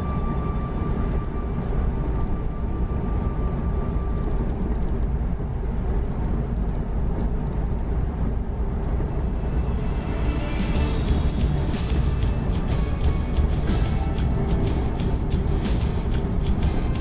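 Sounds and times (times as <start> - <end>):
road and engine noise in cabin: 0.0 - 17.0.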